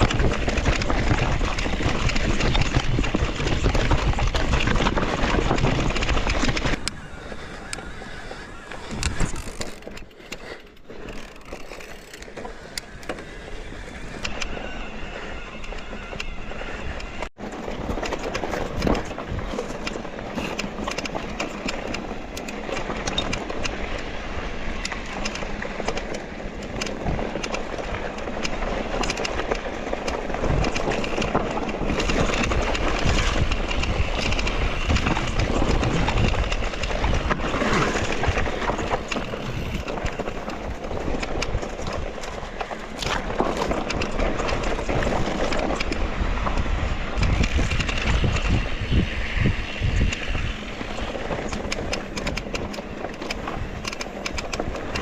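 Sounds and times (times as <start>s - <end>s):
wind on microphone: 0.0s - 10.0s, 12.5s - 55.0s
bike rattling: 0.0s - 55.0s
tyres rolling over dirt: 0.0s - 55.0s.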